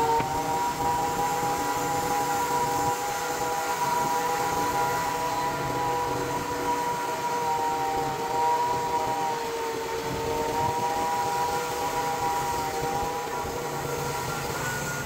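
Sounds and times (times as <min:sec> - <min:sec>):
sawmill engine humming: 0:00.0 - 0:15.0.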